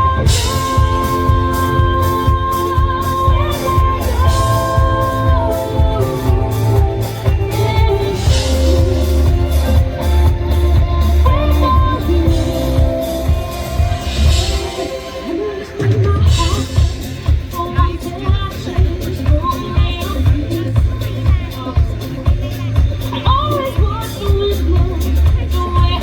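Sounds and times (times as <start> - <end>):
bass guitar: 0.0 - 26.0
drum kit beat: 0.0 - 26.0
electric guitar: 0.0 - 26.0
person singing: 0.0 - 26.0.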